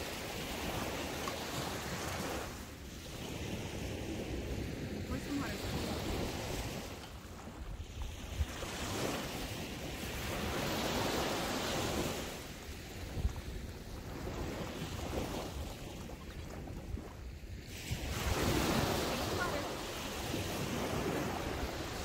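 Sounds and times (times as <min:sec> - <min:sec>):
ocean surf breaking: 0:00.0 - 0:16.7, 0:17.5 - 0:22.0
wind buffeting microphone: 0:00.0 - 0:22.0.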